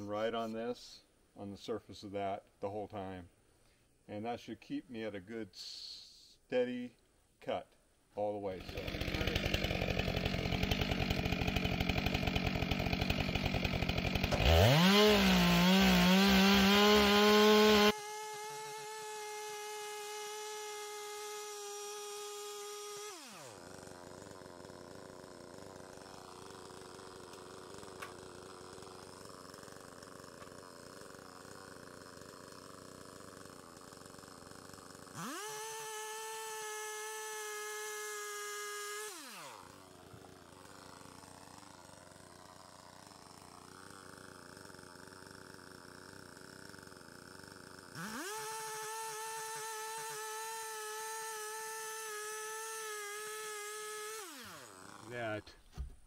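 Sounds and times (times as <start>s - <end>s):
chainsaw cutting wood: 8.5s - 56.0s.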